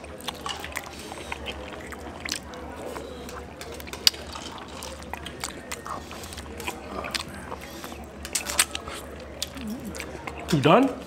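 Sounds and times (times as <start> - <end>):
man chewing and lip smacking: 0.0 - 11.0.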